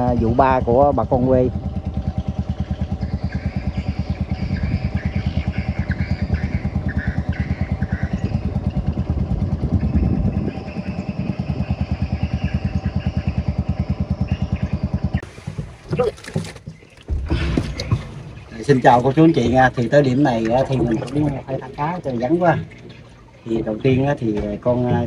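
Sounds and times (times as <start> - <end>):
boat engine puttering: 0.0 - 25.0.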